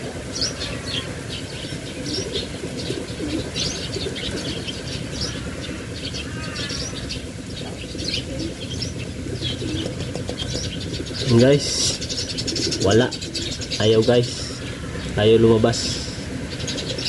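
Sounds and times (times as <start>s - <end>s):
low background hum: 0.0s - 17.0s
small birds chirping: 0.0s - 17.0s.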